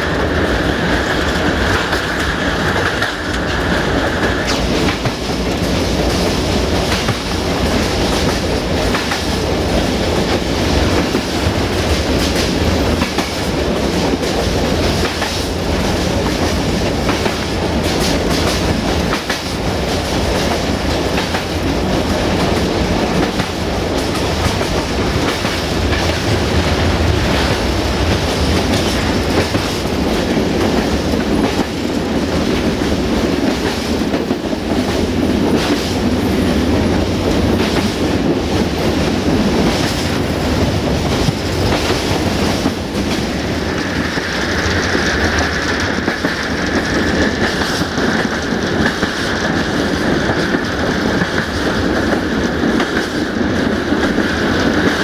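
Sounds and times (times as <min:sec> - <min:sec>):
train rumble: 0:00.0 - 0:55.0
wheels clacking over rail joints: 0:01.0 - 0:55.0.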